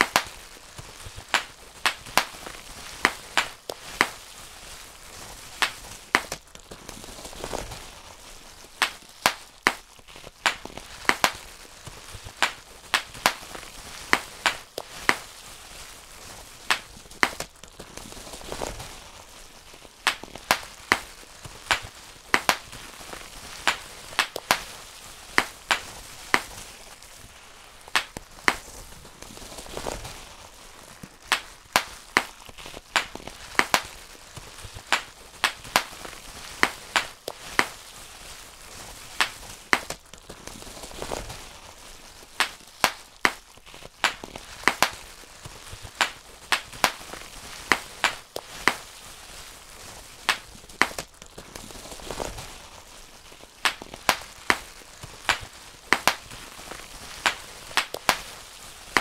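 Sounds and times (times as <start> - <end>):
bubble wrap popping: 0.0 - 59.0
plastic sheet crinkling: 0.0 - 59.0.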